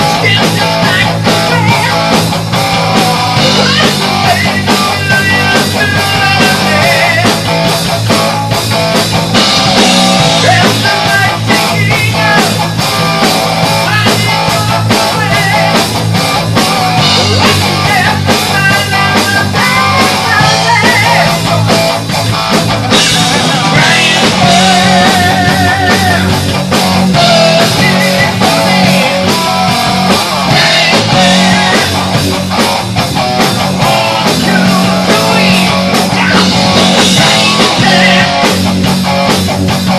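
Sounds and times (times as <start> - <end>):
distorted electric guitars: 0.0 - 39.9
drum kit beat: 0.0 - 39.9.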